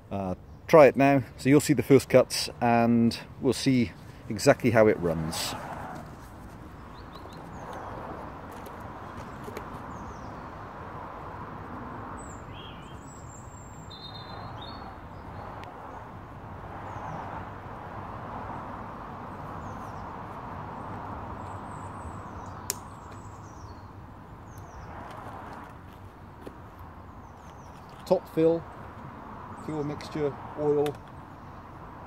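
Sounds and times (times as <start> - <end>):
small birds chirping: 3.4 - 17.4, 19.3 - 32.0.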